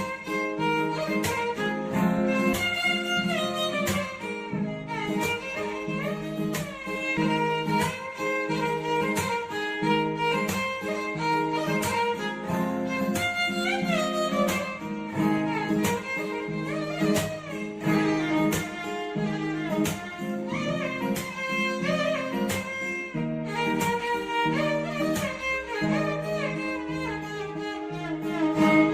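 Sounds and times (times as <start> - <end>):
plucked percussive beat: 0.0 - 28.9
string melody with sliding notes: 0.0 - 28.9.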